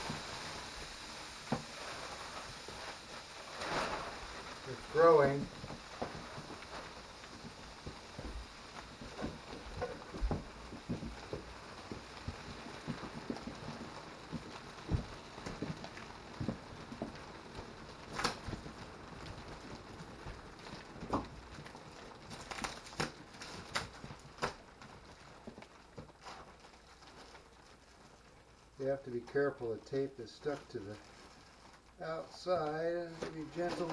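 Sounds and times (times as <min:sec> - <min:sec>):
mattress crackling and popping: 0:00.0 - 0:33.9
plastic wrap crinkling: 0:00.0 - 0:33.9.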